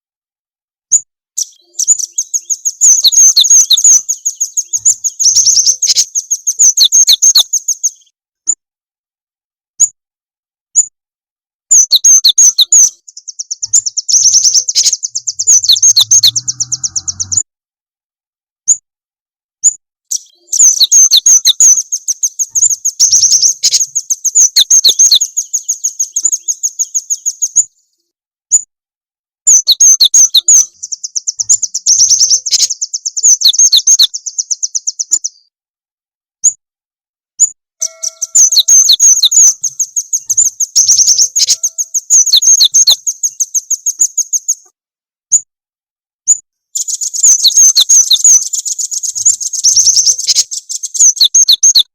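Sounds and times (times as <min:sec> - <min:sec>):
small songbird chirping trills: 0:00.9 - 0:08.6, 0:11.7 - 0:17.4, 0:19.6 - 0:28.7, 0:29.5 - 0:35.6, 0:37.4 - 0:45.5, 0:46.2 - 0:51.9.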